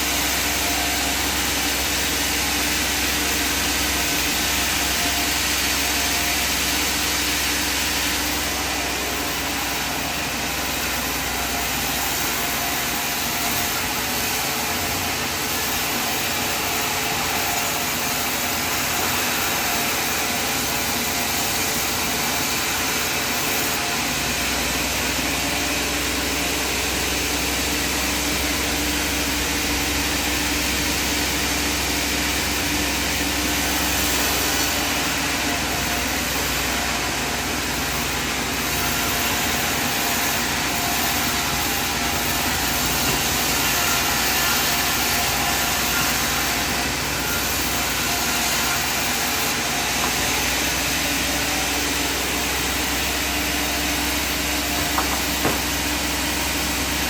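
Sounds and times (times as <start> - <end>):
sawmill machinery hum and hiss: 0.0 - 57.0.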